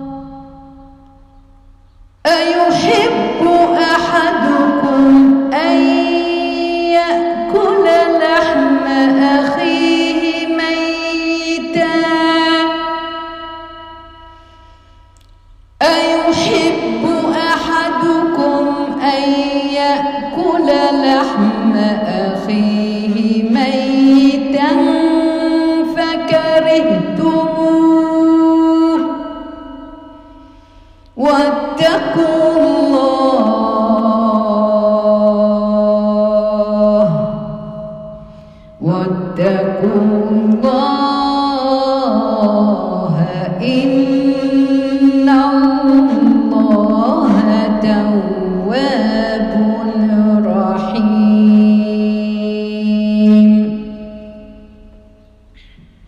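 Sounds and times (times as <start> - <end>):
woman chanting recitation: 2.3 - 13.7, 15.8 - 29.9, 31.2 - 37.9, 38.8 - 54.5.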